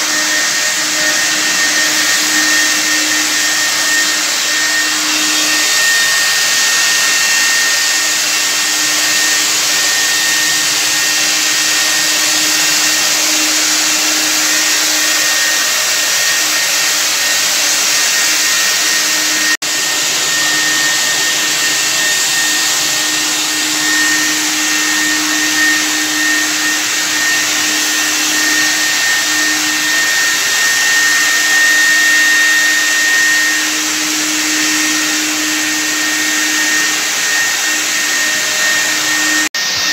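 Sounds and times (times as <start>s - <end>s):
electric fogger running: 0.0s - 39.9s.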